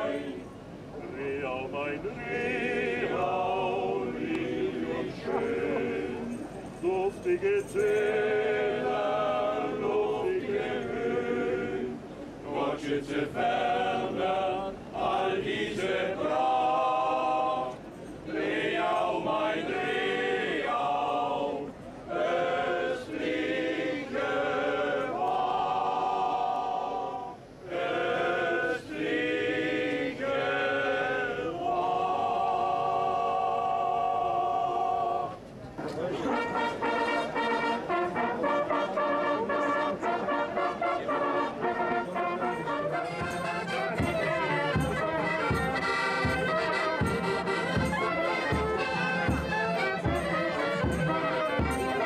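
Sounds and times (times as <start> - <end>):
men's choir singing: 0.0 - 35.4, 36.6 - 52.0.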